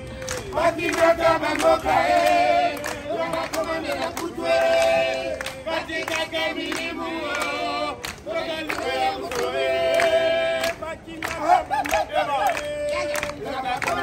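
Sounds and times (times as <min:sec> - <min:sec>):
group singing in harmony: 0:00.0 - 0:14.0.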